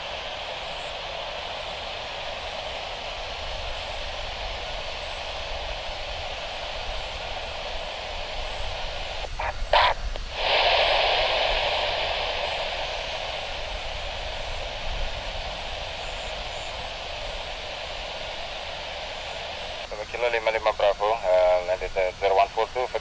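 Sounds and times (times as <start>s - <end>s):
radio static hiss: 0.0s - 23.0s
rush of radio hiss: 0.0s - 23.0s.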